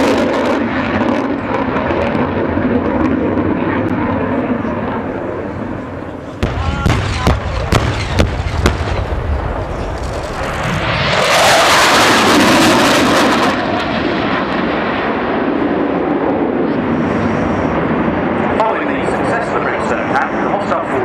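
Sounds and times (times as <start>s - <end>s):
jet roaring past low: 0.0s - 21.0s.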